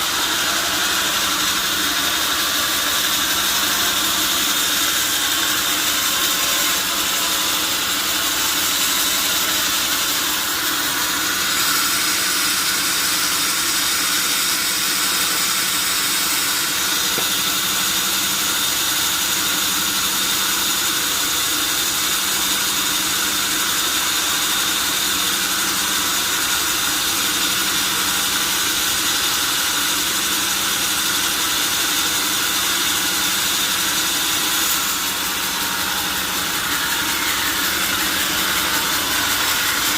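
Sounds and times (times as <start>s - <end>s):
band saw running: 0.0s - 39.9s.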